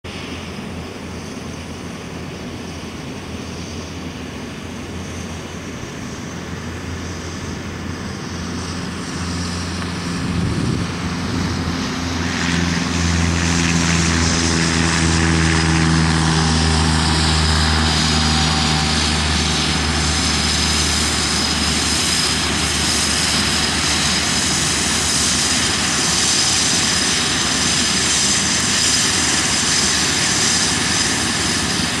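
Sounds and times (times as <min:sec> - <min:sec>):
light aircraft engine and propeller: 0:00.0 - 0:32.0.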